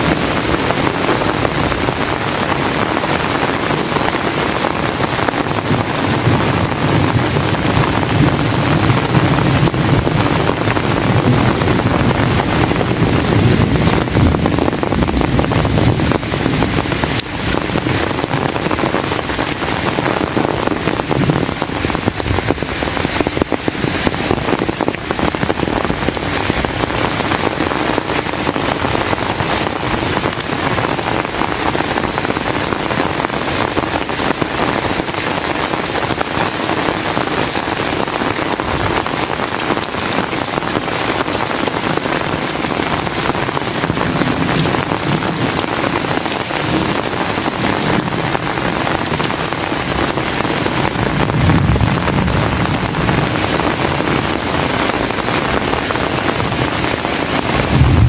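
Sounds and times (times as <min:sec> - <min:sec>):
heavy rain pouring: 0:00.0 - 0:58.0
wind rumble on microphone: 0:00.0 - 0:58.0.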